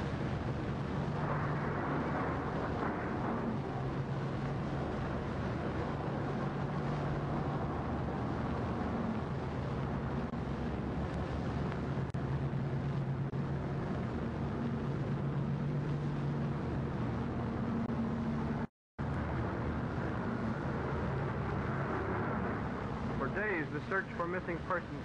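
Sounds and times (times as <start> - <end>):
film soundtrack hiss and hum: 0.0 - 25.0.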